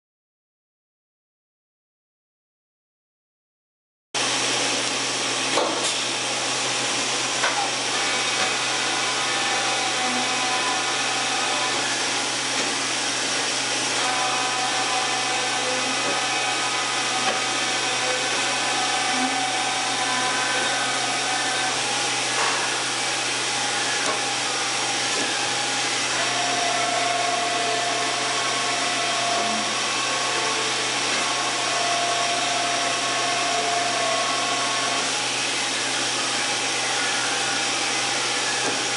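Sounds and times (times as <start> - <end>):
machining center whirring: 4.2 - 38.9
whining motor tones: 6.6 - 38.9.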